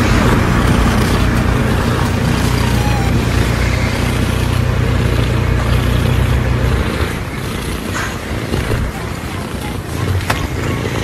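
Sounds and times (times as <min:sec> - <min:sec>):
cat purring loudly: 0:00.0 - 0:11.0.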